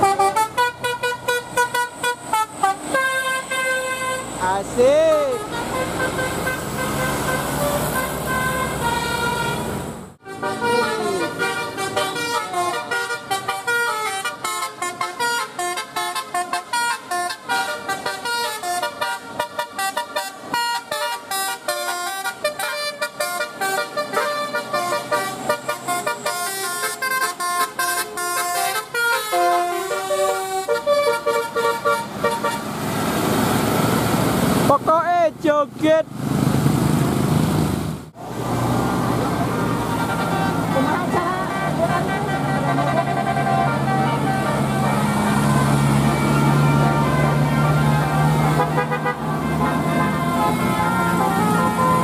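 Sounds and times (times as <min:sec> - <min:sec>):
bus horn playing a fast tune: 0:00.0 - 0:32.8, 0:39.6 - 0:52.0
vehicle noise: 0:00.0 - 0:52.0.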